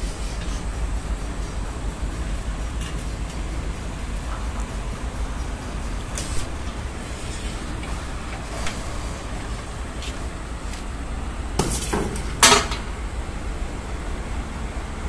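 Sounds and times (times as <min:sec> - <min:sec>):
furnace burner rumble: 0:00.0 - 0:15.0.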